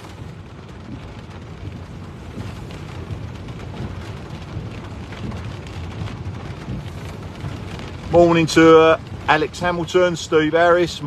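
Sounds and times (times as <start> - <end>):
heavy rain on car: 0.0 - 11.0
low rumble of car driving: 0.0 - 11.0.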